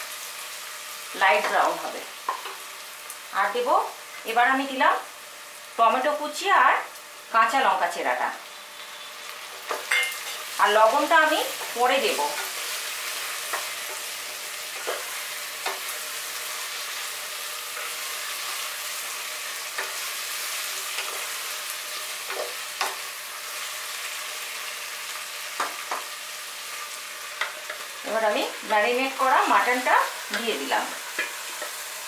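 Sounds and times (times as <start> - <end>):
vegetables frying in oil: 0.0 - 32.0.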